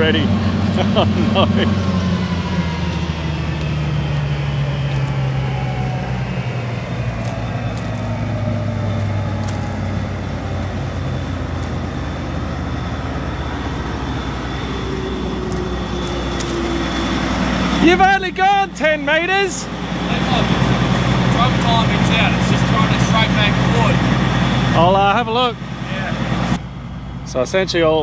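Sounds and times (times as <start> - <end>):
combine harvester drone: 0.0 - 28.0.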